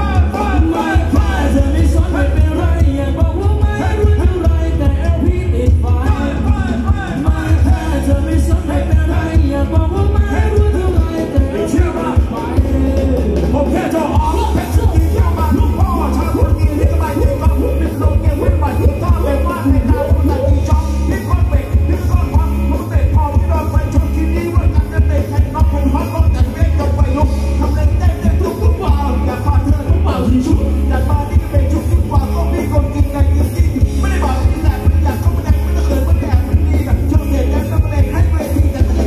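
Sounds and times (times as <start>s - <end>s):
heavy pulsing bass beat: 0.0s - 39.0s
live band dance music: 0.0s - 39.0s.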